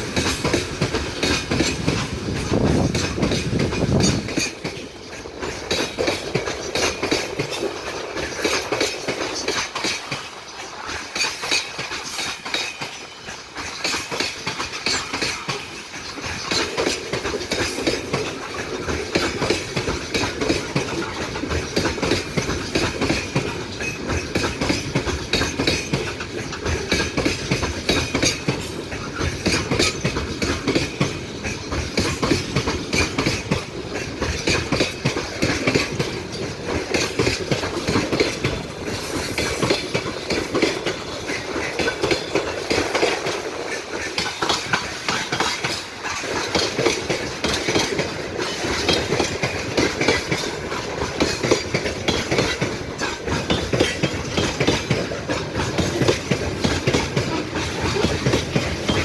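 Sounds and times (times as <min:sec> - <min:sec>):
train wheels clattering: 0:00.0 - 0:59.0.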